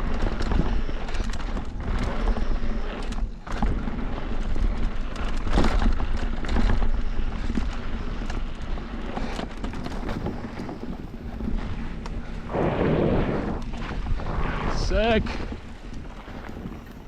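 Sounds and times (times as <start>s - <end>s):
bike knocking and rattling: 0.0s - 12.5s, 13.2s - 17.0s
tyre noise on dirt: 0.0s - 17.0s
wind buffeting microphone: 0.0s - 17.0s.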